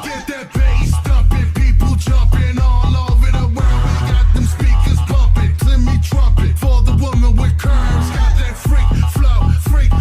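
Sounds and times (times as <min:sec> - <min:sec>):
electronic music with heavy bass beat: 0:00.0 - 0:10.0.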